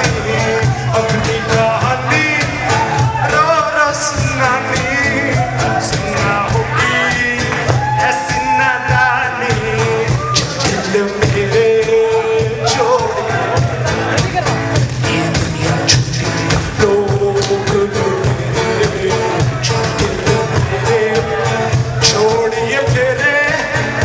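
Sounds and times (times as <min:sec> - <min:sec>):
cajon beat: 0:00.0 - 0:24.0
man singing: 0:00.0 - 0:24.0
strummed acoustic guitar: 0:00.0 - 0:24.0.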